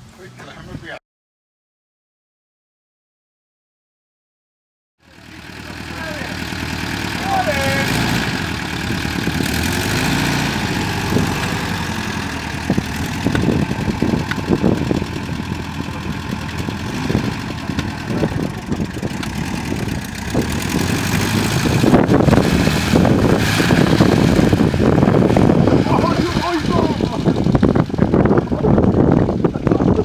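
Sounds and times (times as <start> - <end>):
car engine running lumpy: 5.0 - 30.0.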